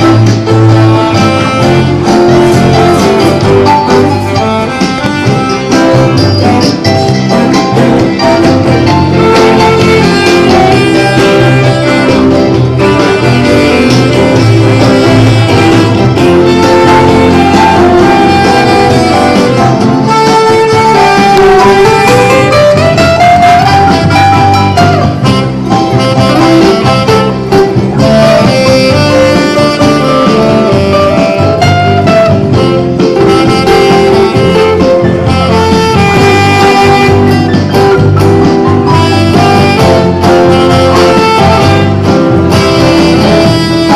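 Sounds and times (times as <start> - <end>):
live band playing instrumental: 0.0 - 43.9.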